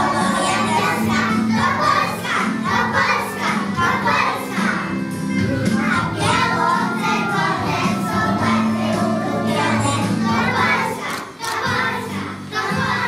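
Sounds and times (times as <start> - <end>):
children singing into a microphone: 0.0 - 5.0, 5.7 - 13.0
instrumental backing music: 0.0 - 13.0.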